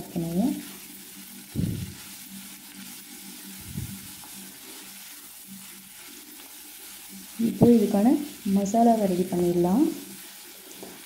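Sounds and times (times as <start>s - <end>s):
vegetables sizzling in oil: 0.0s - 11.0s
wooden spatula stirring: 0.6s - 11.0s.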